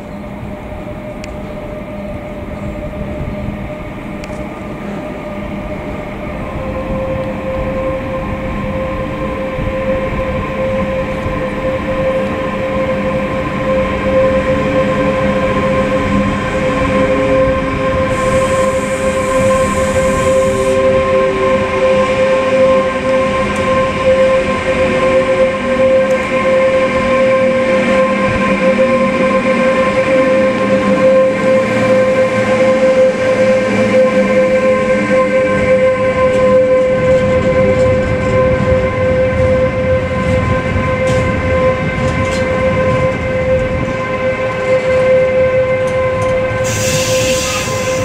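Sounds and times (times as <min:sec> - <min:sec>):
electric locomotive whine: 0:00.0 - 0:48.0
rumble of freight wagons: 0:00.0 - 0:48.0.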